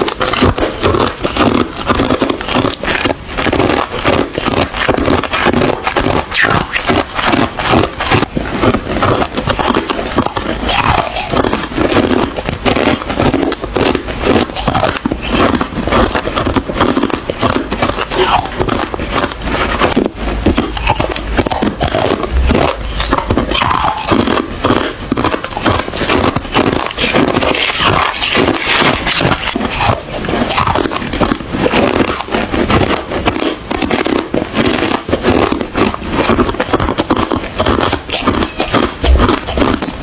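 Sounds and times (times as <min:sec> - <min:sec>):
ice being chewed: 0:00.0 - 0:40.0.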